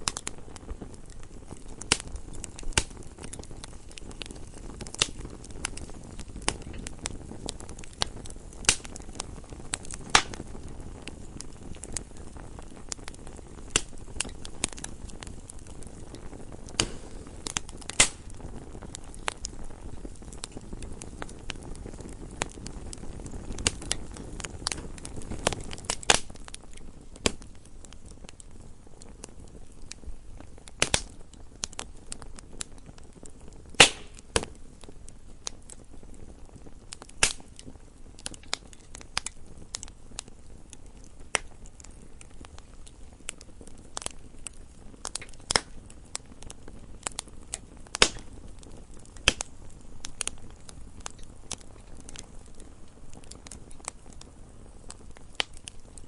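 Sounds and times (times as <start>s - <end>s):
burning logs crackling and popping: 0.0s - 56.0s
fire flames rumbling: 0.0s - 56.0s.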